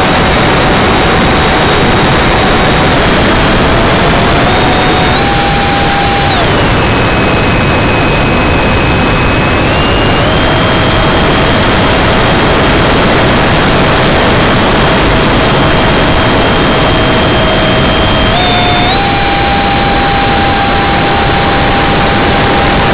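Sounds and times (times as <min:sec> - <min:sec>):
electric ducted fan whine: 0:00.0 - 0:22.9.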